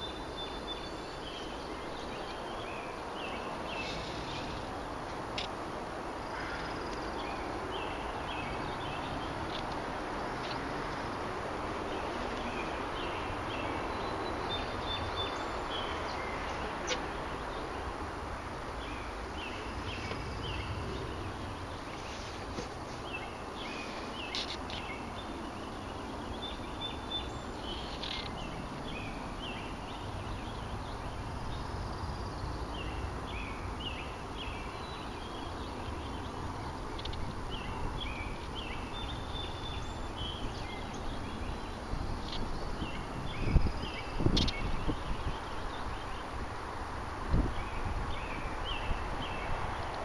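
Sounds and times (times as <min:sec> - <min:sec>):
low wind rumble: 0:00.0 - 0:50.0
small birds chirping: 0:00.0 - 0:50.0.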